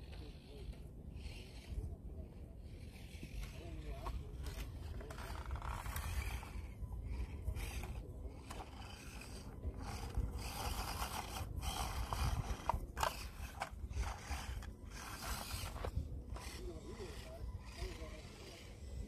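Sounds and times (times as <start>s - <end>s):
small electric motor whirring: 0.0s - 19.0s
wind rumble on microphone: 0.1s - 19.0s
tires scraping on stone: 2.6s - 19.0s.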